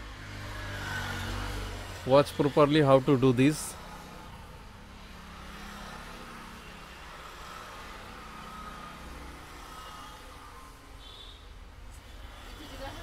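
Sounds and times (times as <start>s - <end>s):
faint road traffic rumble: 0.0s - 13.0s.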